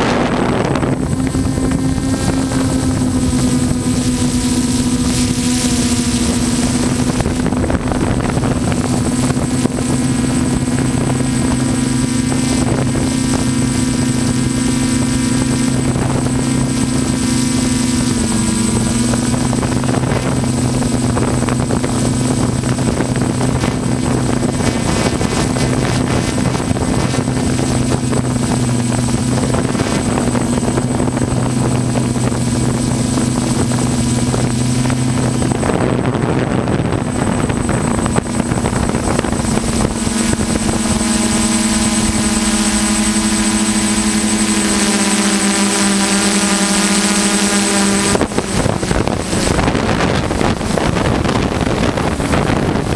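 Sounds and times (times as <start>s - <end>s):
air rushing over microphone: 0.0s - 45.8s, 46.6s - 52.9s
drone motors humming: 0.0s - 52.9s.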